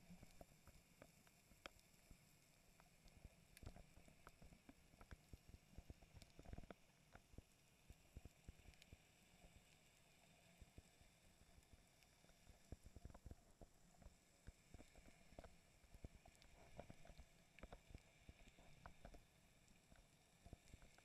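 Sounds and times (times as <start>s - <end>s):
faint muffled underwater rumble: 0.0s - 21.0s
soft underwater clicks and ticks: 0.0s - 21.0s.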